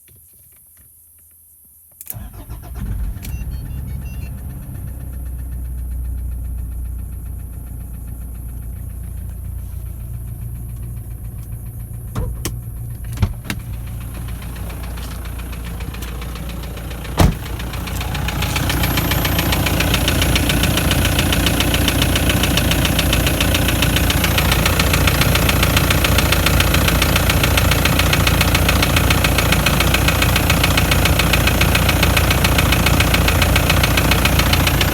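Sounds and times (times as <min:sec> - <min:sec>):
diesel engine starting and idling: 0:02.1 - 0:34.9.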